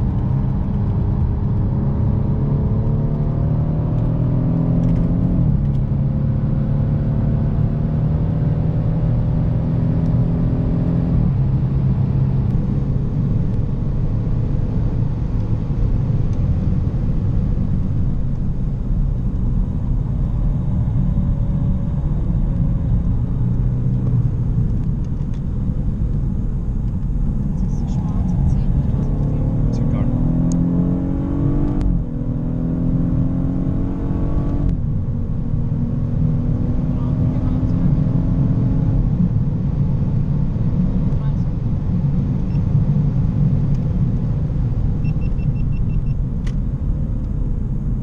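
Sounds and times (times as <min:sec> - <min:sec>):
car engine accelerating: 0:00.0 - 0:48.0
road and tyre rumble: 0:00.0 - 0:48.0.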